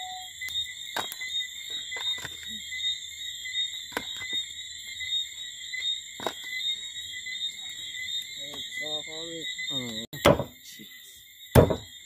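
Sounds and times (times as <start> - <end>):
insects or frogs calling: 0.0 - 12.0.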